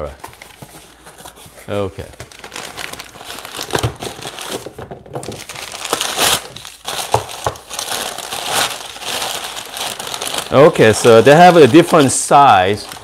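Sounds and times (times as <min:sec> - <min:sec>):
packing paper crumpling: 0:00.1 - 0:13.0.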